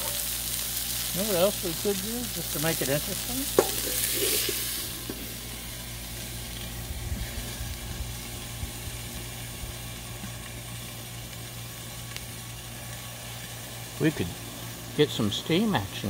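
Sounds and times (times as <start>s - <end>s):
steaks sizzling on a griddle: 0.0s - 16.0s.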